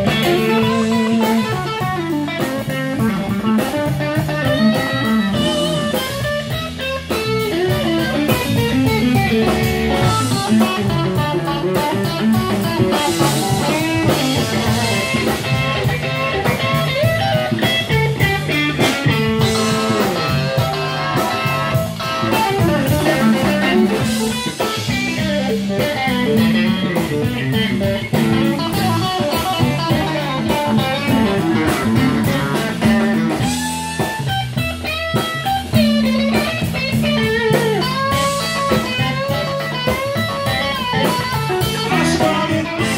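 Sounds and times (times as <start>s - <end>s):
bass guitar pattern: 0.0s - 42.9s
blues band playing: 0.0s - 42.9s
drum kit: 0.0s - 42.9s
electric guitar lead lines: 0.0s - 42.9s.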